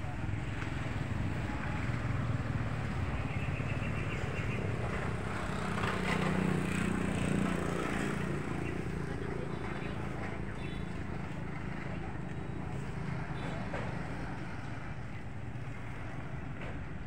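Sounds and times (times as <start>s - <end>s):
motorbike passing: 0.0s - 17.0s
traffic engine rumble: 0.0s - 17.0s.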